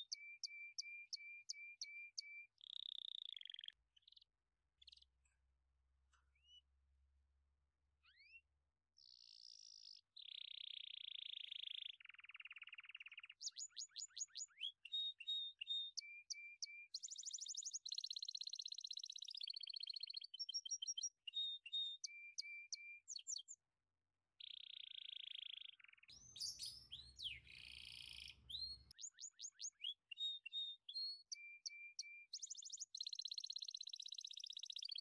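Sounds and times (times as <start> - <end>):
songbirds chirping and trilling: 0.0 - 5.4, 8.0 - 23.6, 24.4 - 35.0.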